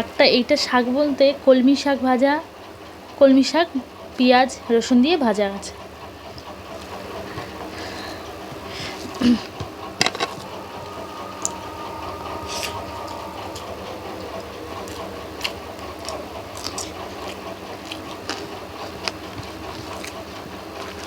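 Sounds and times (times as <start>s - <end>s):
electric fan whirring: 0.0s - 20.7s.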